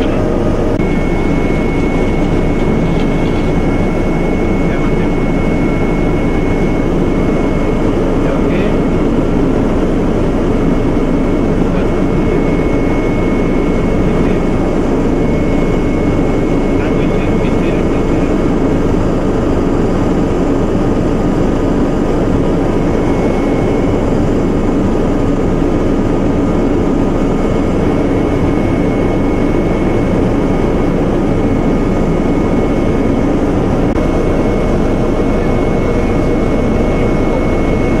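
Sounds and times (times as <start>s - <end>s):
helicopter engine and rotor drone: 0.0s - 38.0s
high engine whine: 0.0s - 38.0s.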